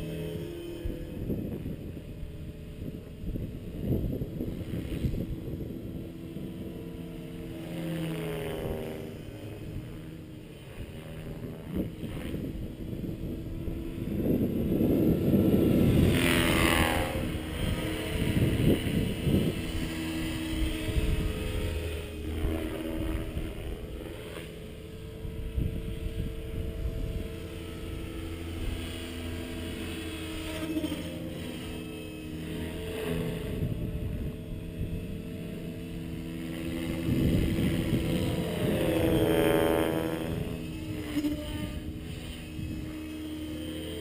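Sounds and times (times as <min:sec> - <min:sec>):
model helicopter motor whine: 0:00.0 - 0:44.0.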